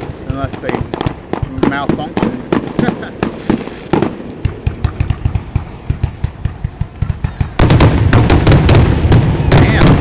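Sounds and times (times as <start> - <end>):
continuous rumbling: 0.0 - 10.0
fireworks booming: 0.0 - 10.0
fireworks sharp cracks: 0.0 - 10.0.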